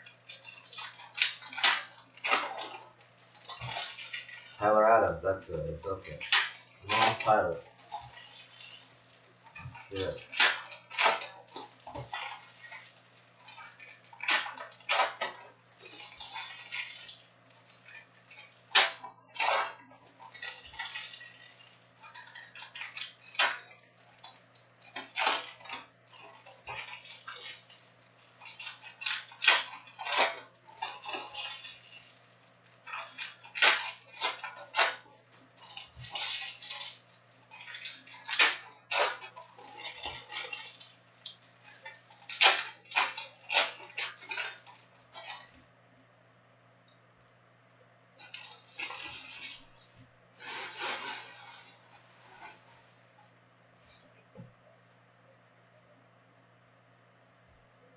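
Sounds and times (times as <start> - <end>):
foil packs tearing and crinkling: 0.0 - 45.5, 48.2 - 52.6.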